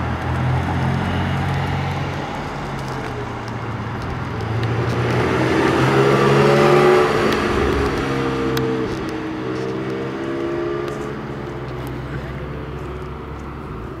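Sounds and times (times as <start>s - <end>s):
car engine driving away: 0.0s - 14.0s.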